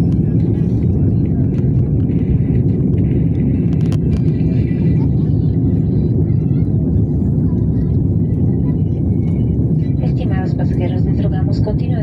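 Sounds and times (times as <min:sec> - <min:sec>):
airliner engines rumbling: 0:00.0 - 0:12.0
faint voices: 0:00.0 - 0:12.0.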